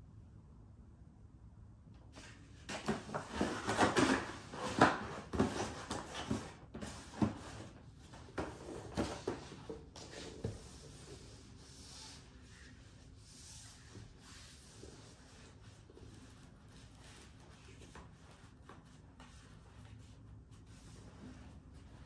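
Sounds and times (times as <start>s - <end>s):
cardboard scraping and rubbing: 2.2s - 22.0s.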